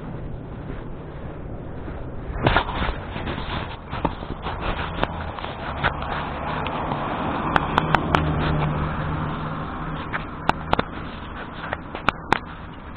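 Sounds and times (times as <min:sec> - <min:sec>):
rubbing and rustling on microphone: 0:00.0 - 0:12.9.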